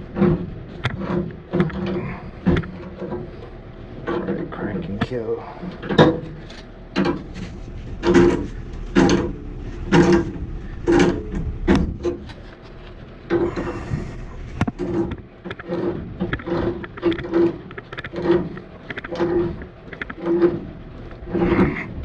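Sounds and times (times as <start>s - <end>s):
pipe wrench creaking and grinding: 0.1s - 22.0s.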